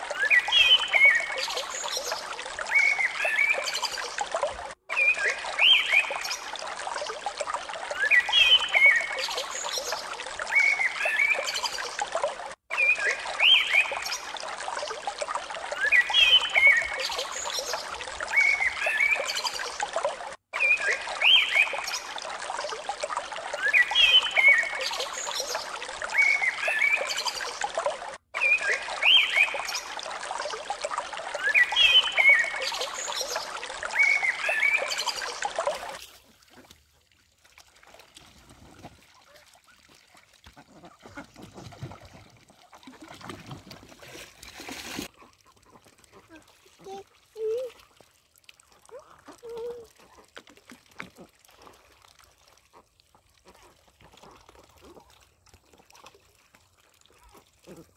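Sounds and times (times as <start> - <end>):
water trickling: 0.0 - 57.9.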